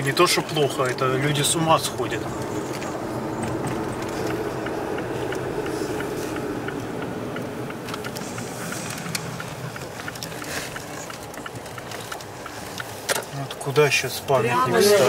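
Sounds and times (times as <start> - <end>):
tyre noise on wet road: 0.0 - 15.0
light ticks: 0.8 - 14.0.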